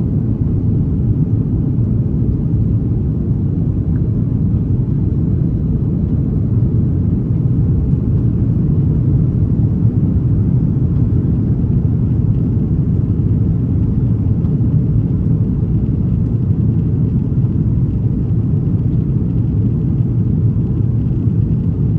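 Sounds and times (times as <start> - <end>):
jet cabin engine rumble: 0.0 - 21.9.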